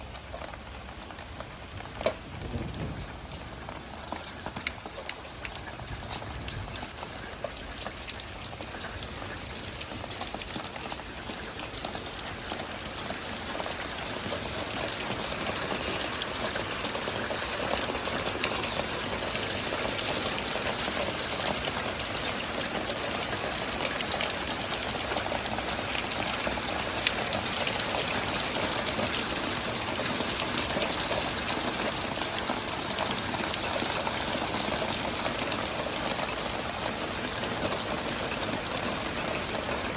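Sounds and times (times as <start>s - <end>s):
hailstones pelting down: 0.0s - 39.9s.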